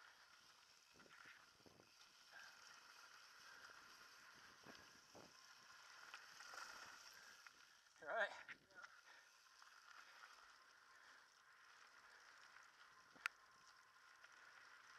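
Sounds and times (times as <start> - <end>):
bike tyres hissing on dirt: 0.0 - 14.9.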